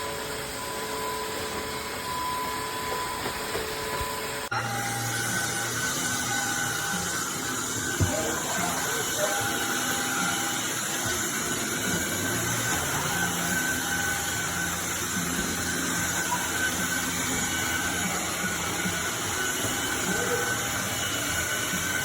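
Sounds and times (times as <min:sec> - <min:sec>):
floor vacuum running: 0:00.0 - 0:22.0.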